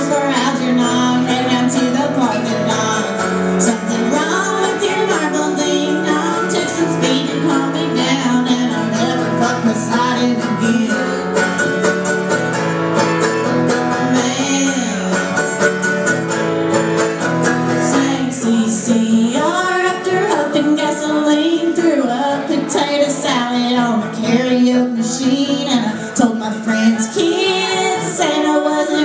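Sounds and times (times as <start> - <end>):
woman singing: 0.0 - 12.0, 13.7 - 15.7, 17.7 - 29.0
acoustic guitar strummed: 0.0 - 29.0
mandolin: 0.0 - 29.0.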